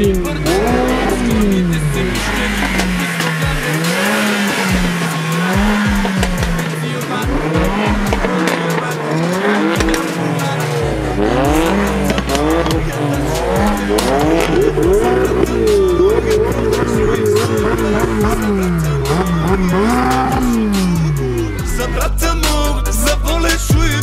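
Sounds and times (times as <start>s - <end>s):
rising and falling pitch sweeps: 0.0s - 7.0s, 9.6s - 22.0s
car engine revving: 0.0s - 24.0s
deep bass: 0.0s - 24.0s
music beat: 0.0s - 24.0s.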